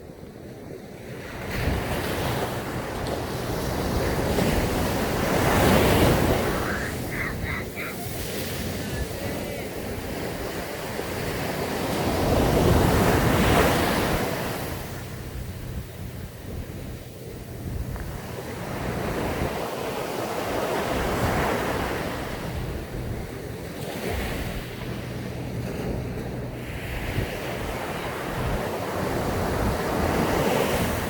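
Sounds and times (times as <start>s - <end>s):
sea waves breaking on beach: 0.8s - 31.0s.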